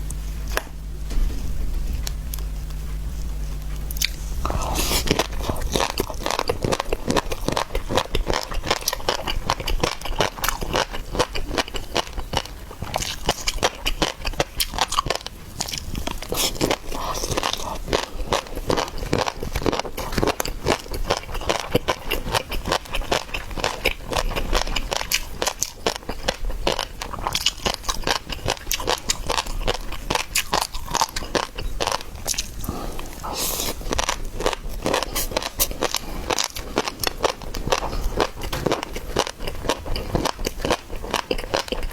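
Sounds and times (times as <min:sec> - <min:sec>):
seafood being bitten and chewed: 0:01.9 - 0:41.9.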